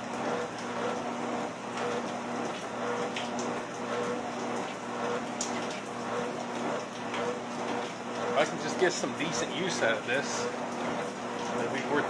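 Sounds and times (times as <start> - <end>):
treadmill motor hum: 0.0 - 12.0.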